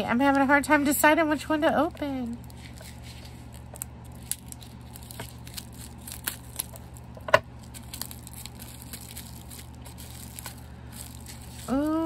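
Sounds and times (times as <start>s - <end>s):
wrapping crinkling and tearing: 1.7s - 12.0s.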